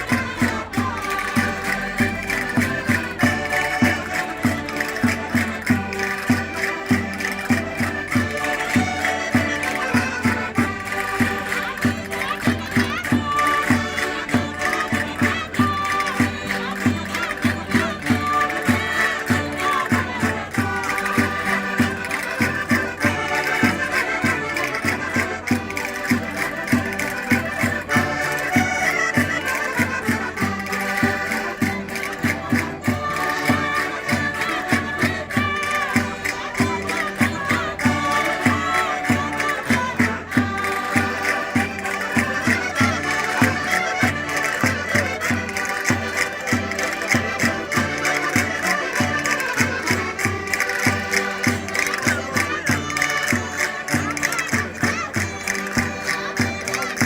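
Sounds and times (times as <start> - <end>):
button accordions playing folk tune: 0.0 - 57.0.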